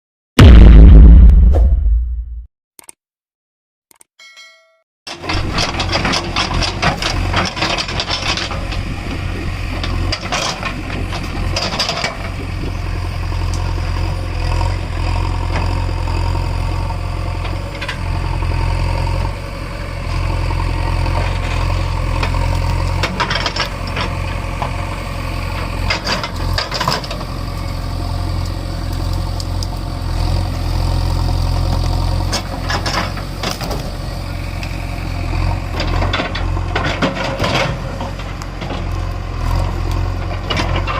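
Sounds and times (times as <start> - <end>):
diesel engine running: 5.1 - 40.9.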